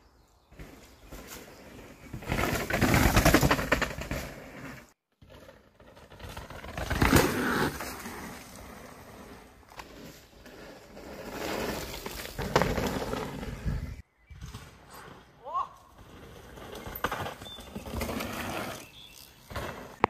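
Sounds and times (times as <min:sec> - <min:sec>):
bike tyres crunching on dirt: 0:00.4 - 0:20.0.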